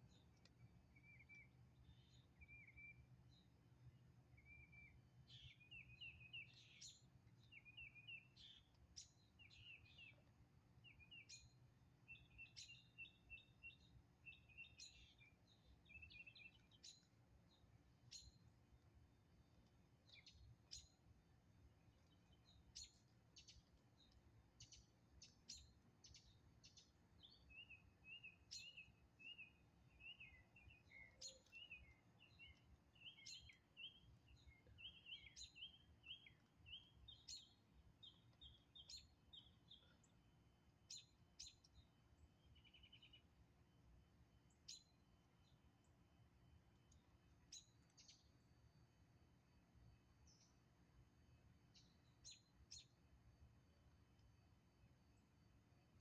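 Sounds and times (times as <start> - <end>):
small birds chirping: 0.0 - 3.6, 4.3 - 43.4, 44.4 - 46.0, 46.6 - 48.8, 49.8 - 53.2.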